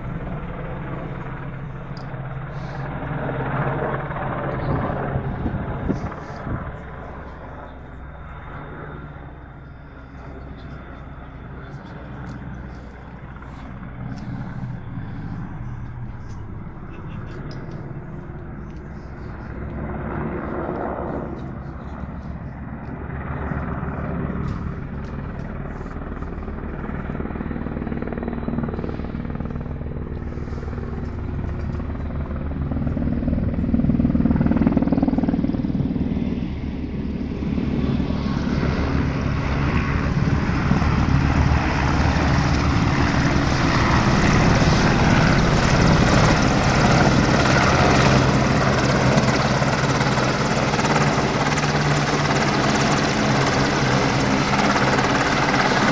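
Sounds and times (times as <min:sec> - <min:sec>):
helicopter rotor and engines: 0:00.0 - 0:55.9.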